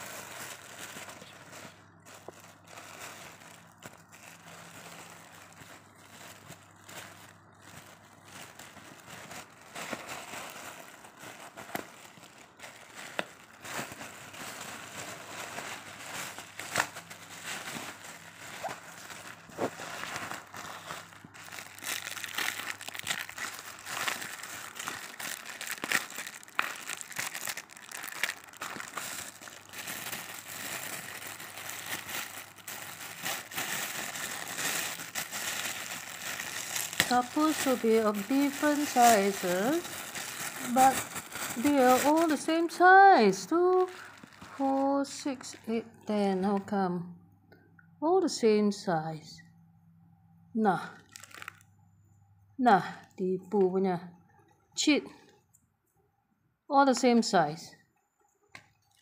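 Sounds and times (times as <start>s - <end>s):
plastic bag crinkling: 0.0s - 46.7s, 51.0s - 51.7s.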